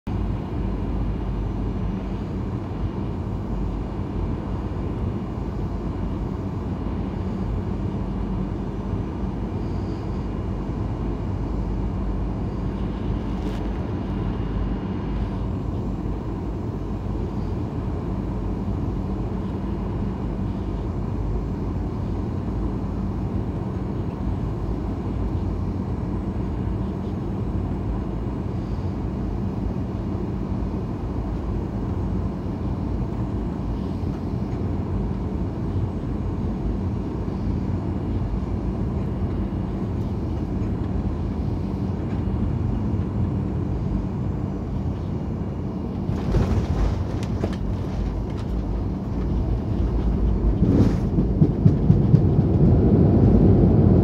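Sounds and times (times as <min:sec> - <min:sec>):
constant low hum: 0:00.0 - 0:54.0
aircraft cabin engine rumble: 0:00.1 - 0:54.0.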